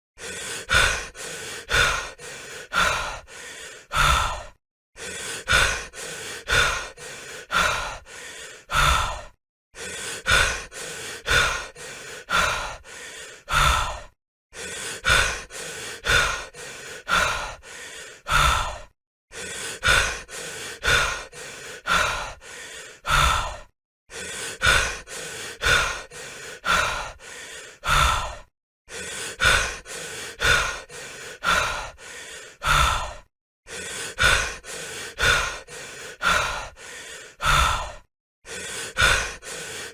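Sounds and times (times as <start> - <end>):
person breathing heavily: 0.2 - 39.9.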